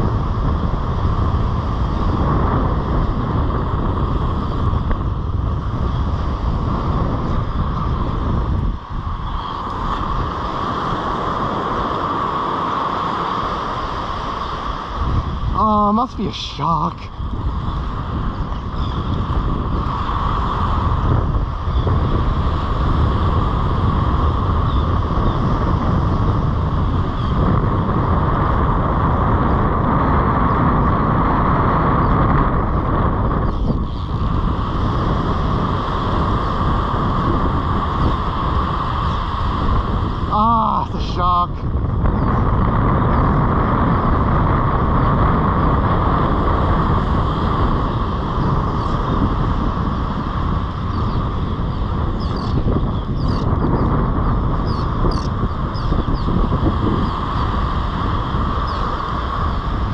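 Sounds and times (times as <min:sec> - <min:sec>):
surf washing onto beach: 0:00.0 - 0:59.9
wind buffeting microphone: 0:00.0 - 0:59.9.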